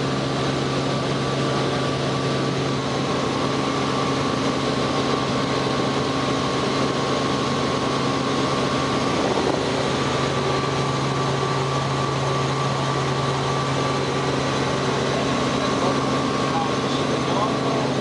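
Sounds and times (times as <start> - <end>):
helicopter engine and rotor drone: 0.0 - 18.0
high whine: 0.0 - 18.0.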